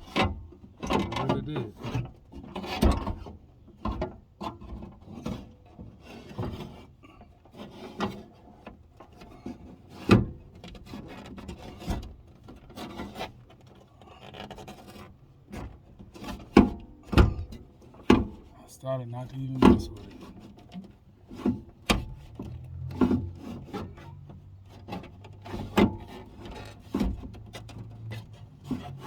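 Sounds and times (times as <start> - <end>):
rubbing and scraping in car door: 0.0 - 18.6, 19.6 - 29.0.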